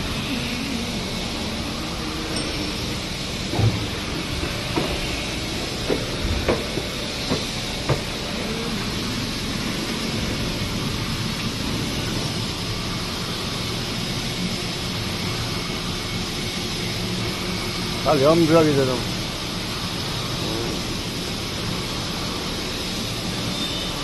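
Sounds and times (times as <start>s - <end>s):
injection molding machine hum: 0.0s - 24.0s.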